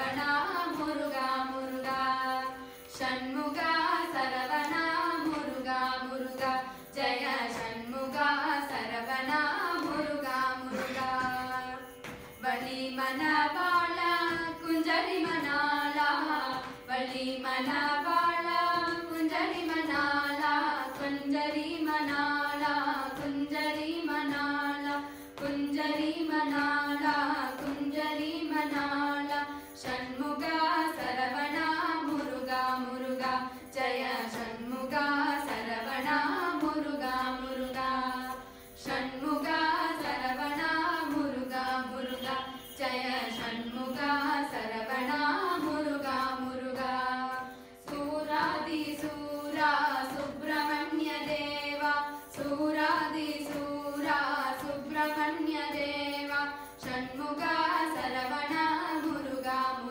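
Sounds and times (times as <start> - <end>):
girls singing devotional song: 0.0 - 59.9.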